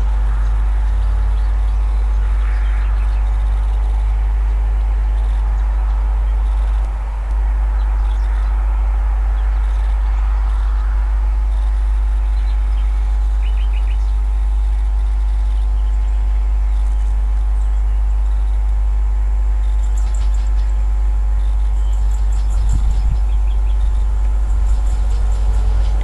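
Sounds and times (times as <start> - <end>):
faint hum: 0.0 - 26.0
small birds chirping: 0.0 - 26.0
steady low rumble: 0.0 - 26.0.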